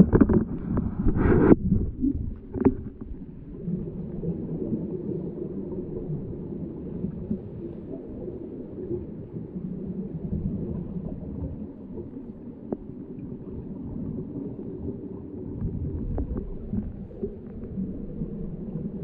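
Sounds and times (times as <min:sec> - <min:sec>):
muffled underwater rumble: 0:00.0 - 0:19.0
regulator bubbles gurgling: 0:00.0 - 0:19.0.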